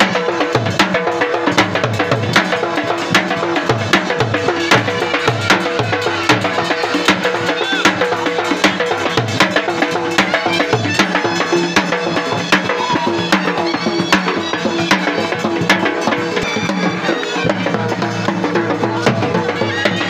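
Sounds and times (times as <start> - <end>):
dhol drum beating: 0.0 - 20.0.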